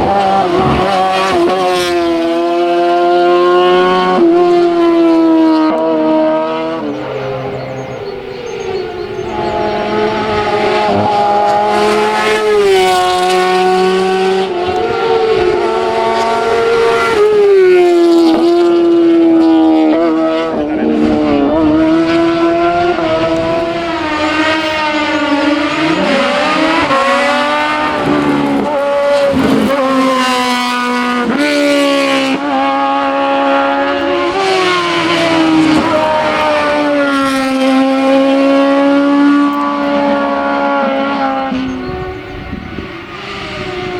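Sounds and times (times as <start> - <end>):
racing car engine at full throttle: 0.0 - 43.9.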